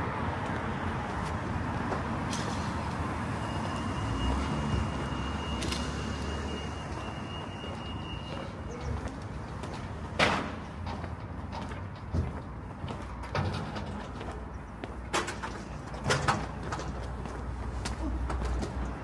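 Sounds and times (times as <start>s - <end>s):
car traffic: 0.0s - 19.0s.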